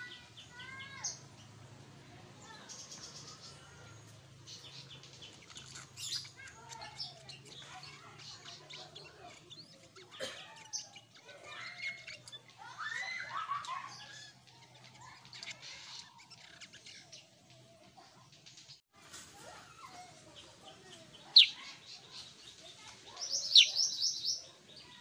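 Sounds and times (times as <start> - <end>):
bird chirping and warbling: 0.0 - 1.6, 2.4 - 18.8, 19.8 - 25.0.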